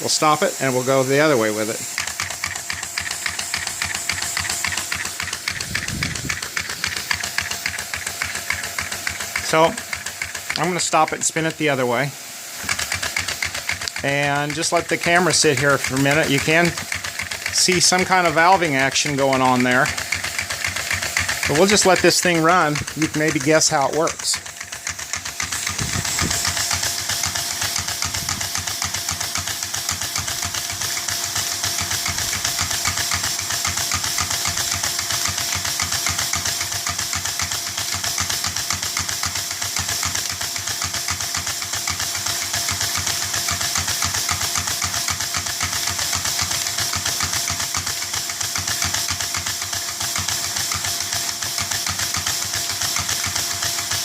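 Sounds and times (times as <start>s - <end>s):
hairdryer hiss and whine: 0.0s - 54.0s
toy engine thumping: 0.0s - 54.0s.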